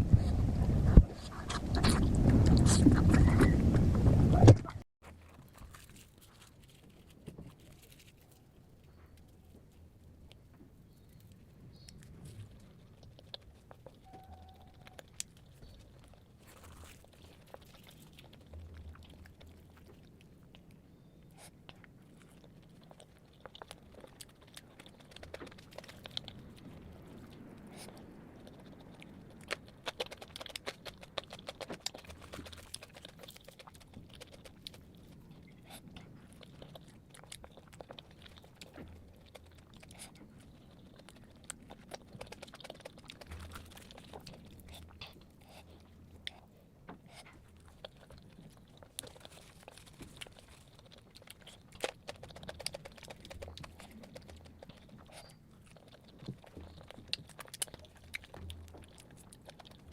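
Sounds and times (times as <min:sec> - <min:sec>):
chewing crunchy flatbread: 0:05.0 - 0:59.9.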